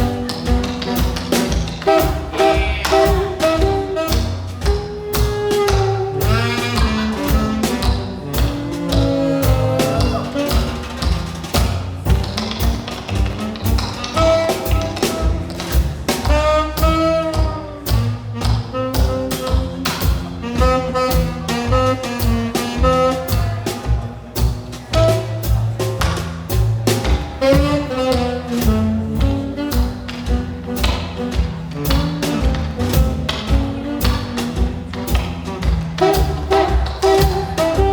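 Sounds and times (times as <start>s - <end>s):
saxophone melody: 0.0s - 11.0s, 12.3s - 23.6s, 27.4s - 37.9s
drums: 0.0s - 37.9s
walking double bass: 0.0s - 37.9s.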